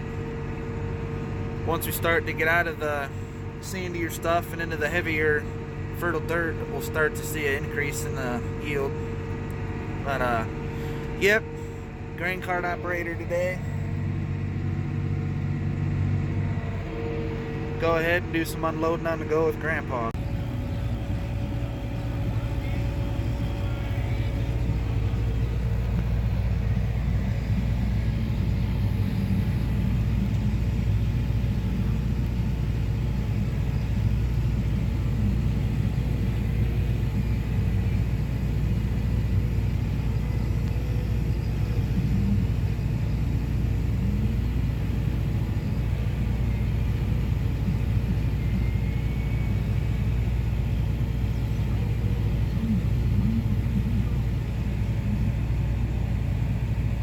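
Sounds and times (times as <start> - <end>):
tractor engine running in cab: 0.0 - 57.0.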